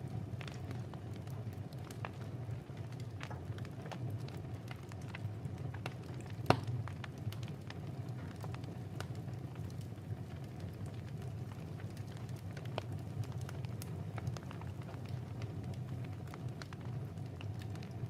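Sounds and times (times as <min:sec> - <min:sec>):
fire popping: 0:00.0 - 0:18.0
wood fire crackling: 0:00.0 - 0:18.0.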